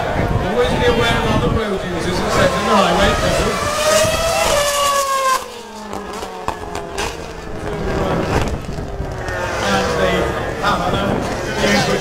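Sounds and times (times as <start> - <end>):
racing car engine passing by: 0.9 - 12.0.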